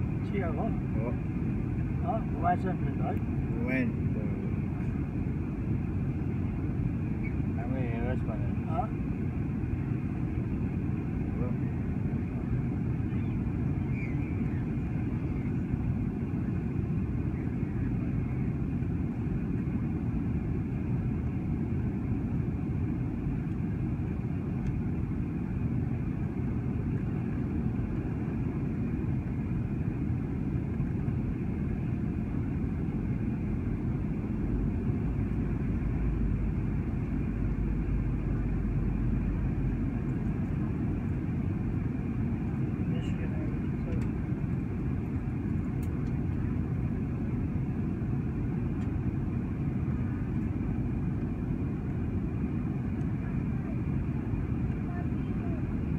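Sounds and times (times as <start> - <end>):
airliner cabin engine noise: 0.0 - 55.9.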